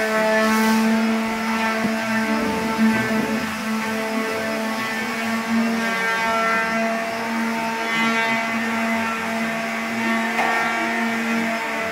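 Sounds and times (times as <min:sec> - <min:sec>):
drywall sander motor humming: 0:00.0 - 0:11.9.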